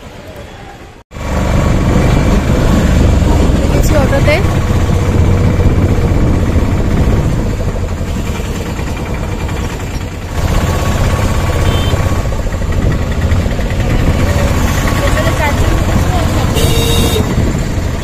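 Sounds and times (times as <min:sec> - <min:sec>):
rickshaw engine rumbling: 0:00.0 - 0:18.0.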